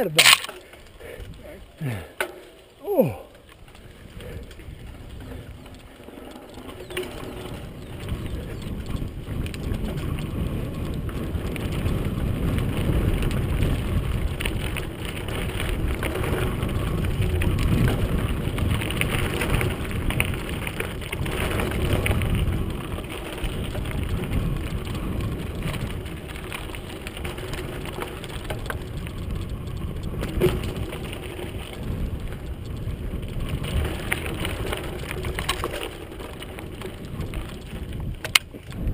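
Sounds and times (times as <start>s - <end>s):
bike clicks and rattles: 0.0s - 38.9s
bike tyres rumbling on gravel: 0.0s - 38.9s.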